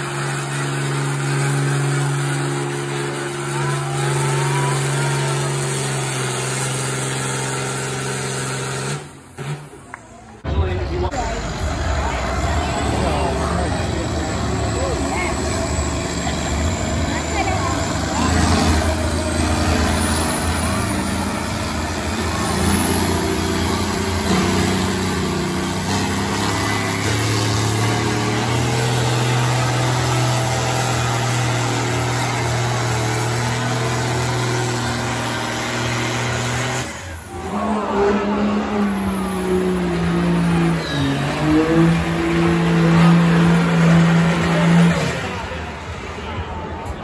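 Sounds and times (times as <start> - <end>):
pickup truck engine pulling: 0.0 - 47.0
tractor engine under heavy load: 0.0 - 47.0.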